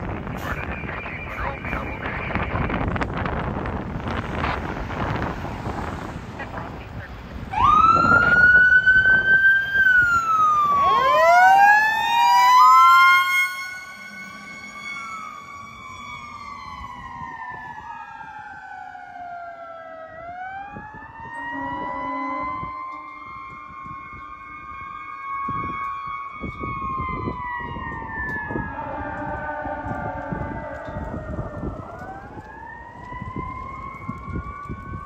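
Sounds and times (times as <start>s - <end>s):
siren yelping: 0.0s - 3.0s, 6.4s - 35.0s
electronic siren wailing: 0.0s - 3.4s, 6.4s - 35.0s.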